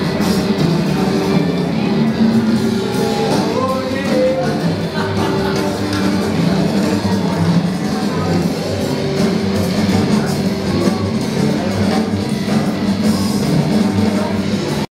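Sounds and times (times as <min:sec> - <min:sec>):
loud rock music: 0:00.0 - 0:14.9.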